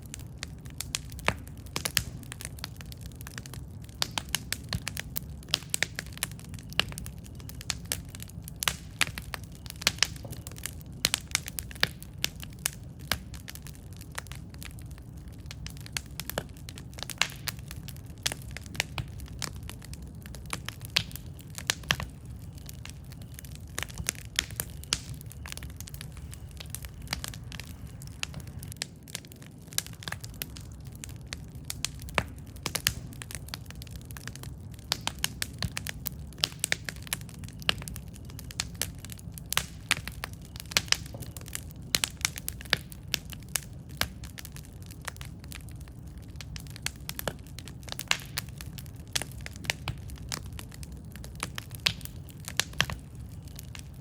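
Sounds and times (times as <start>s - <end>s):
campfire burning: 0.0s - 54.0s
wood crackling and popping: 0.0s - 54.0s.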